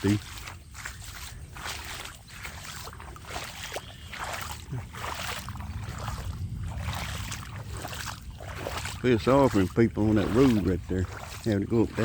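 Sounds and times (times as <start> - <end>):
footsteps sloshing through water: 0.0 - 12.0
wind rumble on microphone: 0.0 - 12.0.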